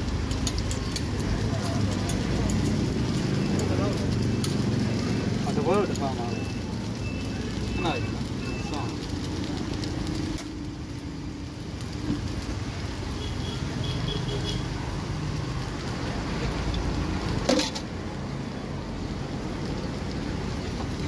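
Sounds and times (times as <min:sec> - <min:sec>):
low rumble of street traffic: 0:00.0 - 0:21.0.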